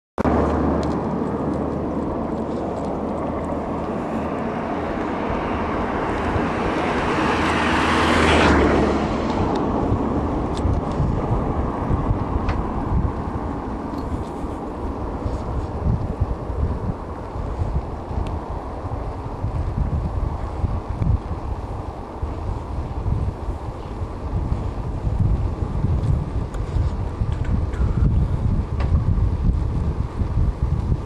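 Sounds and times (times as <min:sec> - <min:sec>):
vehicle engine and road noise: 0:00.2 - 0:31.0.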